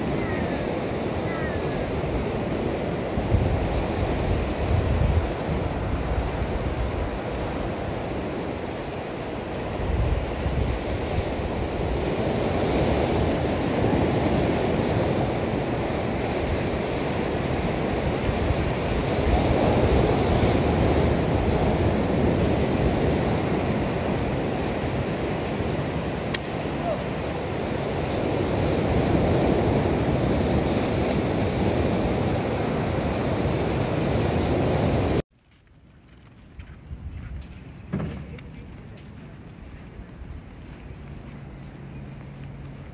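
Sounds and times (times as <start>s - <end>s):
wind buffeting microphone: 0.0s - 35.2s, 35.8s - 42.9s.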